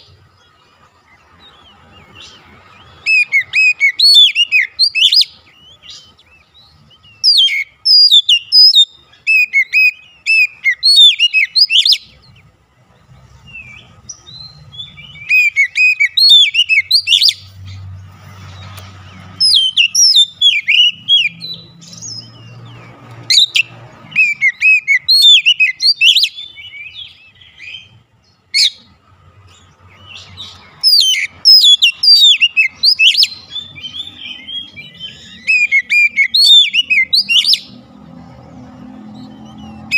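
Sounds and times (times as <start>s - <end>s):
bird singing whistled notes: 0.0s - 12.5s, 13.4s - 28.9s, 29.5s - 38.0s.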